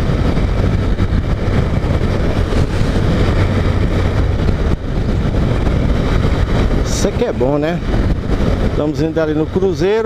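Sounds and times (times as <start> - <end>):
motorcycle engine running: 0.0 - 10.0
wind on microphone: 0.0 - 10.0.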